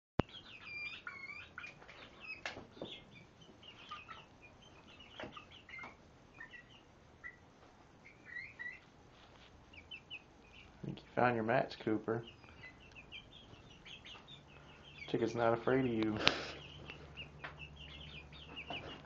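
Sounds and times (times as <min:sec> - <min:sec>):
chicks peeping: 0:00.2 - 0:19.0.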